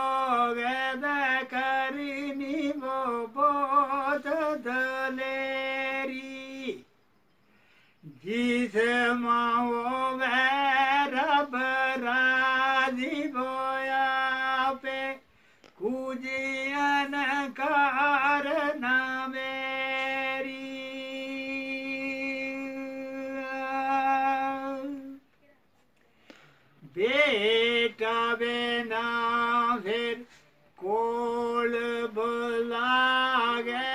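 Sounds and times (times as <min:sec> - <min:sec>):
man singing unaccompanied: 0:00.0 - 0:07.2, 0:08.0 - 0:25.3, 0:26.7 - 0:33.9.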